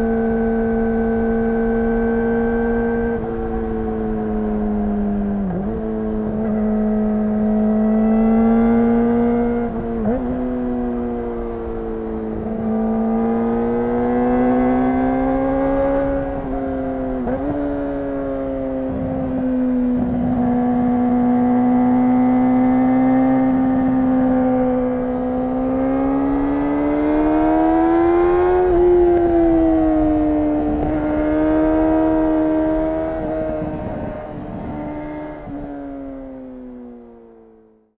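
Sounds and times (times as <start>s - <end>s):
motorcycle engine at high revs: 0.0s - 37.5s.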